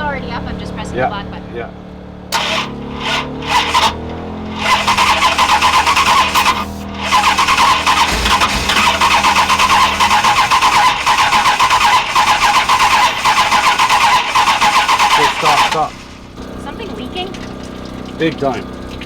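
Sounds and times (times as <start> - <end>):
engine cranking on starter: 2.3 - 19.0.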